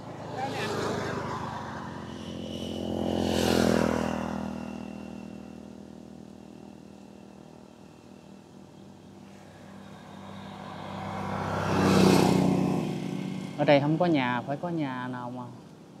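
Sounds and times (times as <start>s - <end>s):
motorbike passing by: 0.0s - 16.0s
vehicle approaching: 0.0s - 16.0s.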